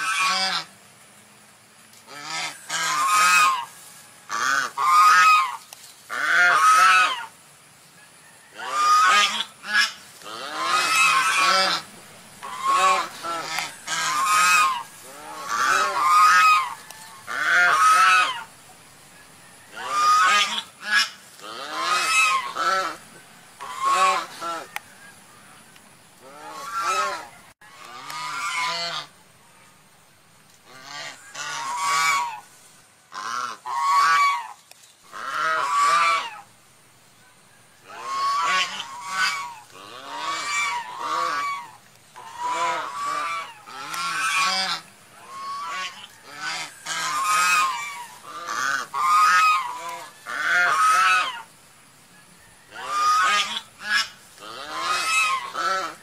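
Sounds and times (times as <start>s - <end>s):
swans calling: 0.0s - 0.7s, 2.0s - 7.4s, 8.5s - 18.8s, 19.6s - 29.2s, 30.6s - 36.6s, 37.8s - 51.6s, 52.7s - 56.0s.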